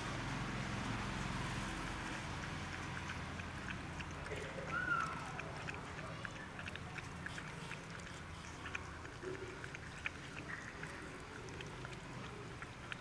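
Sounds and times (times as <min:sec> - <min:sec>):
puppies eating from plastic box: 0:00.3 - 0:13.0.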